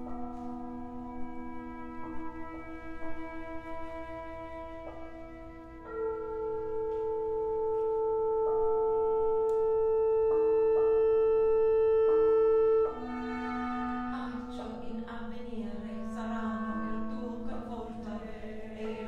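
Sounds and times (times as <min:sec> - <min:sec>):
chamber ensemble playing: 0:00.0 - 0:19.0
wavering sung notes: 0:00.0 - 0:19.0.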